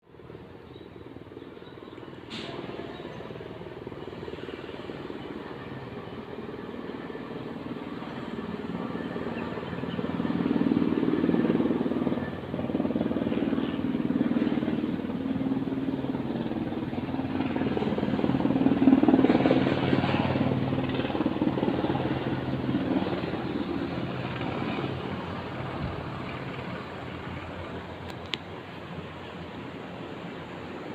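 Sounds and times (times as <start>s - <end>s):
helicopter in flight: 0.0s - 30.9s.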